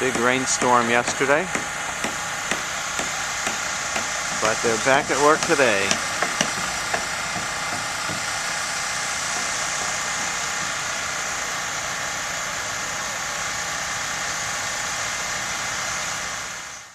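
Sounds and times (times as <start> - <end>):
construction machinery engine droning: 0.0 - 16.9.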